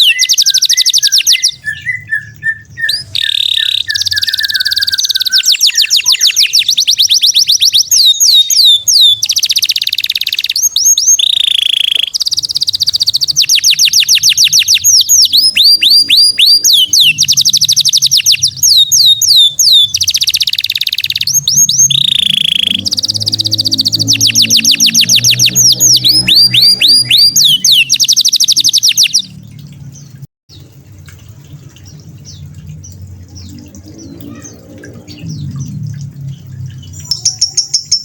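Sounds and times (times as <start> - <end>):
songbird singing trills: 0.0 - 30.6, 31.9 - 38.0.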